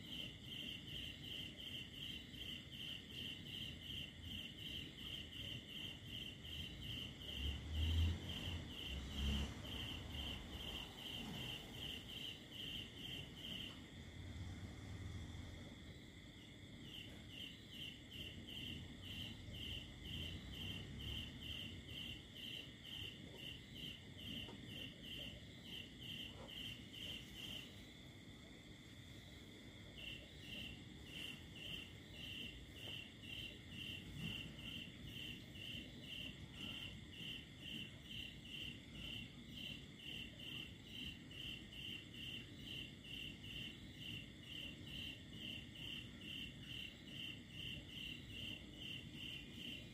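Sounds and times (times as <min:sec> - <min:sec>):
cricket chirping: 0:00.0 - 0:49.9
insect trill: 0:00.0 - 0:49.9.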